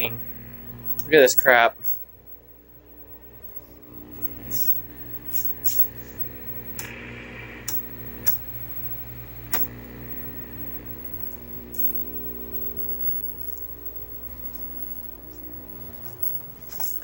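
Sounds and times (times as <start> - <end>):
low tonal hum: 0.0 - 17.0.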